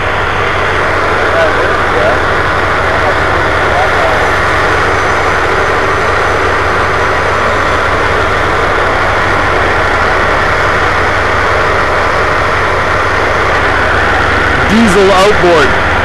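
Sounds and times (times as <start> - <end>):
tugboat engine droning: 0.0 - 16.0.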